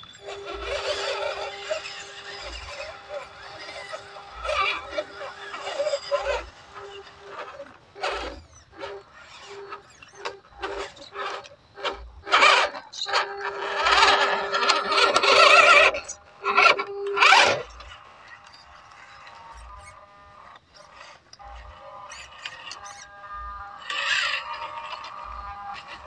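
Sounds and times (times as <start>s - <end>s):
toy truck motors whining: 0.0s - 26.0s.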